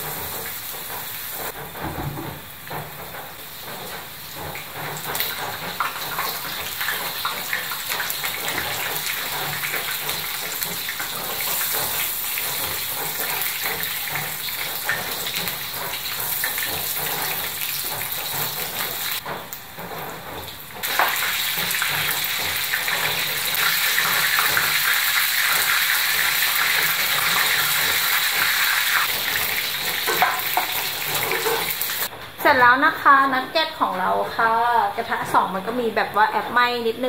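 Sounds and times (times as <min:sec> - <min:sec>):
food deep-frying in oil: 0:00.0 - 0:32.1.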